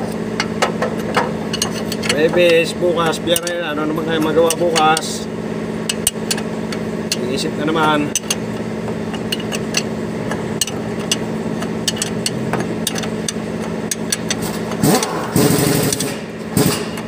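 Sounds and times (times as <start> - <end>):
engine running: 0.0 - 17.0
wrench metallic clicks: 0.4 - 5.2, 5.8 - 17.0.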